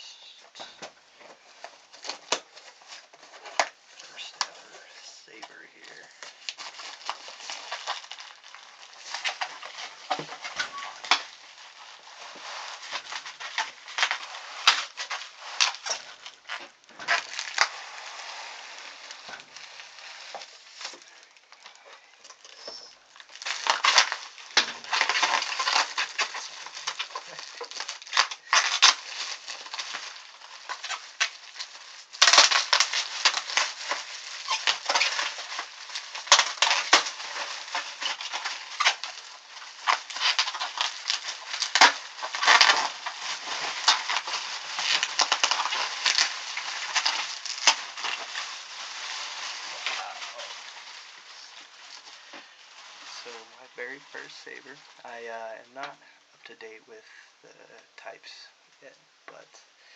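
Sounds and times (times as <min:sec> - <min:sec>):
packaging crinkling and tearing: 0:00.0 - 0:56.8.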